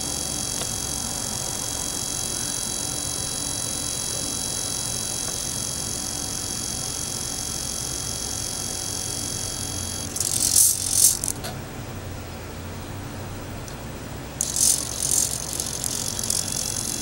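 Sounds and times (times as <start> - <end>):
loud rattling burst: 0.0 - 11.4, 14.4 - 17.0
servos buzzing with high whine: 0.0 - 12.1, 14.0 - 17.0.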